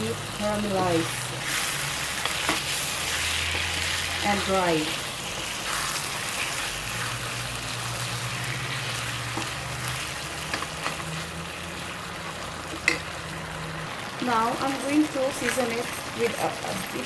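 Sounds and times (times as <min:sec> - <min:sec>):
liver sizzling in a wok: 0:00.0 - 0:17.0.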